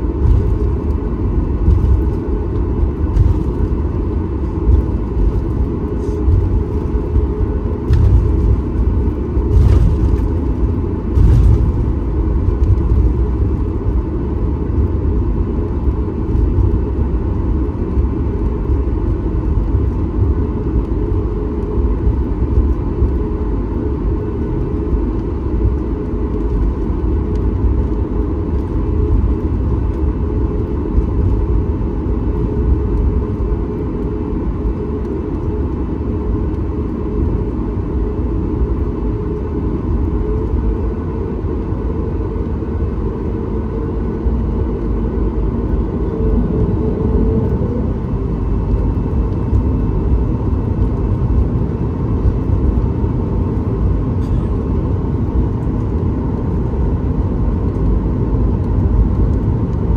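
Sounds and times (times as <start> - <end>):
airplane cabin engine rumble: 0.0 - 59.9
faint steady hum: 0.0 - 59.9.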